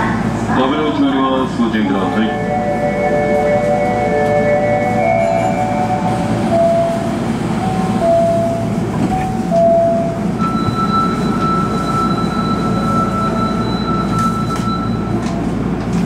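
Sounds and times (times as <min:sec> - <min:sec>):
subway train humming: 0:00.0 - 0:16.0.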